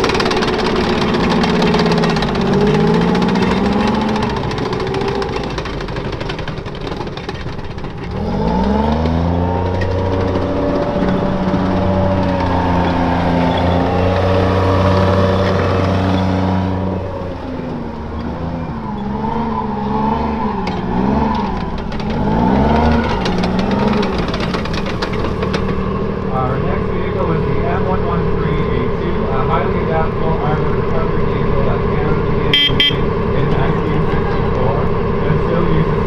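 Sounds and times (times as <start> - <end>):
tracked vehicle diesel engine revving: 0.0 - 36.0.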